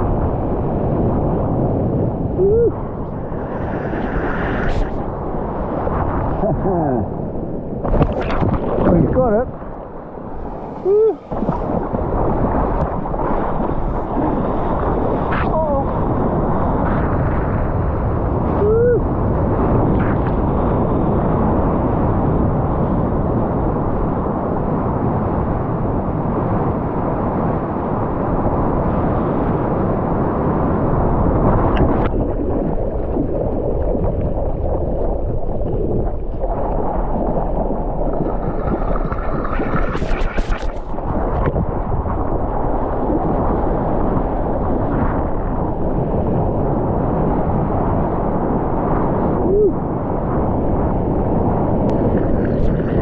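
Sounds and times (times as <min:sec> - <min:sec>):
water rushing and churning: 0:00.0 - 0:53.0
wind buffeting microphone: 0:00.0 - 0:53.0.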